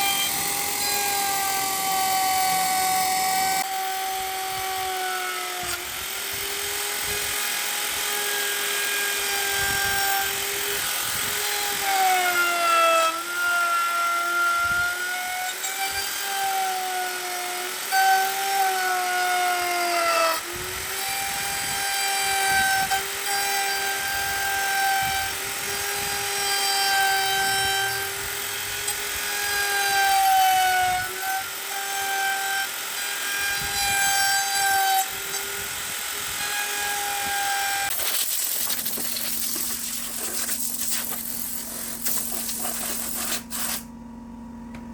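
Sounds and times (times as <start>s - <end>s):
power tool motor whining: 0.0s - 44.0s.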